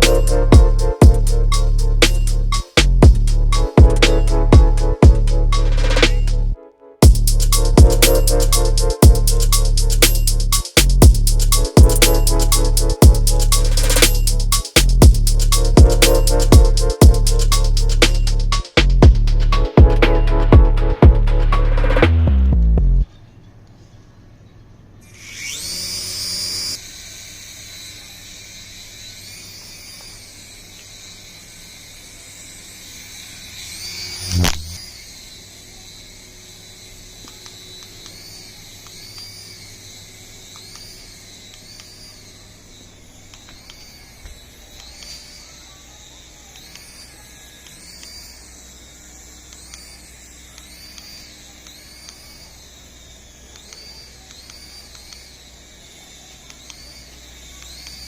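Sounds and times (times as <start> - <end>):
toy helicopter motors whining: 0.0 - 6.4, 7.0 - 19.7, 25.0 - 58.0.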